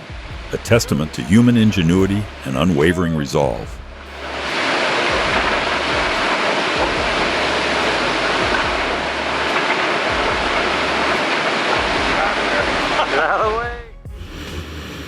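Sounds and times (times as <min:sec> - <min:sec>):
floodwater rushing: 0:00.0 - 0:13.5.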